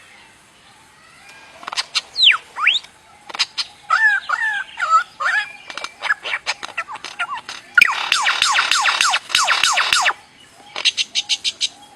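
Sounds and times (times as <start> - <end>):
bird calling with clicks and whistles: 1.2 - 11.9.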